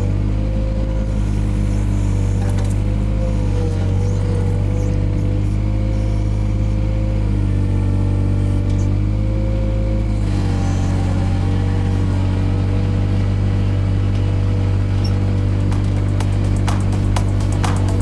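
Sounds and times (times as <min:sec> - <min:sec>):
excavator diesel engine under load: 0:00.0 - 0:18.0.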